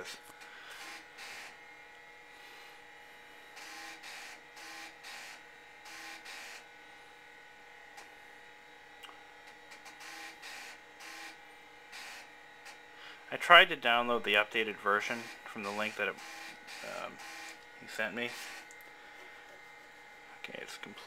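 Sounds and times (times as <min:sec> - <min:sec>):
floppy drive reading: 0:00.0 - 0:21.0
machine hum: 0:00.0 - 0:21.0.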